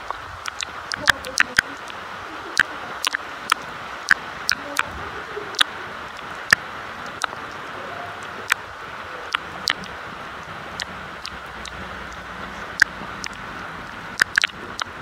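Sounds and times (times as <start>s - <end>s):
rain hissing: 0.0s - 15.0s
raindrops tapping near microphone: 0.0s - 15.0s.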